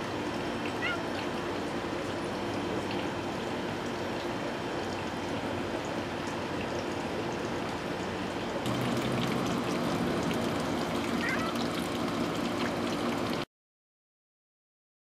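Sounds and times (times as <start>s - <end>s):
water trickling: 0.0s - 13.5s.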